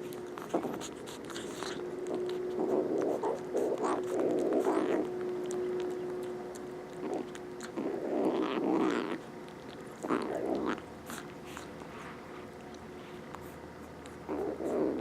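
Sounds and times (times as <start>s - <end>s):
chewing clicks: 0.0s - 11.9s, 12.5s - 15.0s
kittens growling: 0.0s - 11.9s, 13.8s - 15.0s.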